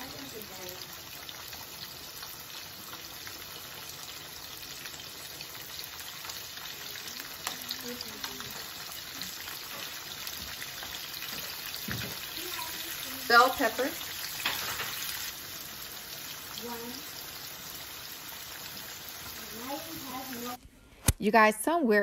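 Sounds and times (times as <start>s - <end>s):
peppers sizzling in a skillet: 0.0s - 21.7s.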